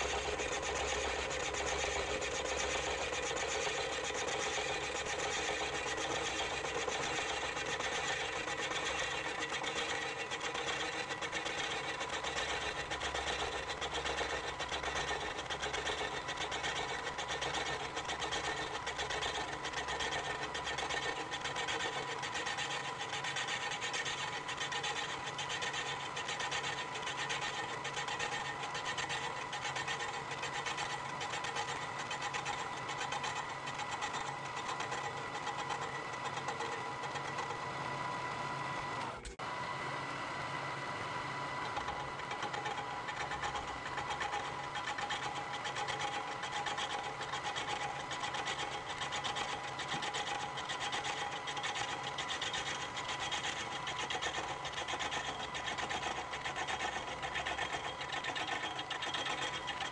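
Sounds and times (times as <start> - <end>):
milling machine cutting metal: 0.0 - 37.7, 41.5 - 59.9.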